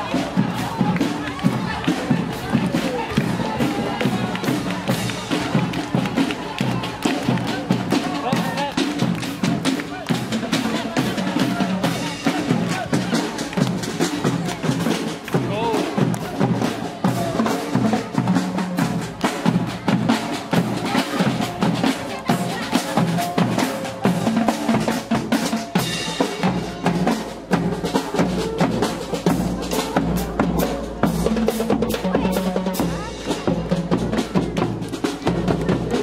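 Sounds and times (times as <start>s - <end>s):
snare drums march rhythm: 0.0s - 36.0s.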